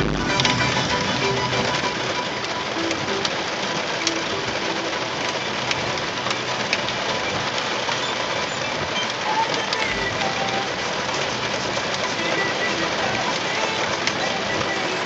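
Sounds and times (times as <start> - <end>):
heavy rain on a car roof: 0.0 - 15.0.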